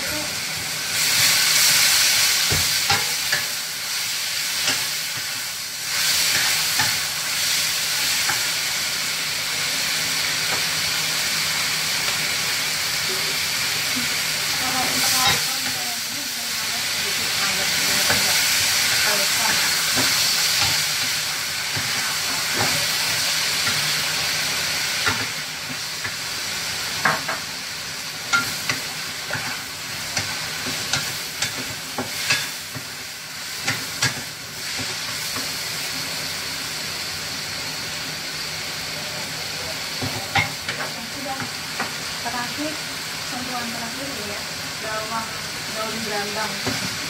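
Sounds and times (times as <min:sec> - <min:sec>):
food sizzling in a wok: 0:00.0 - 0:47.0.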